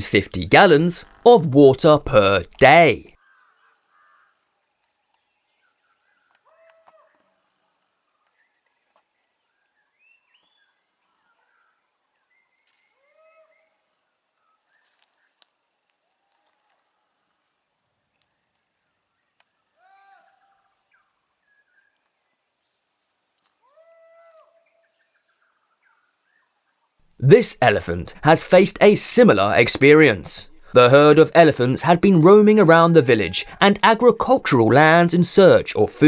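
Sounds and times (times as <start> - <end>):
crickets droning: 0.0 - 36.0.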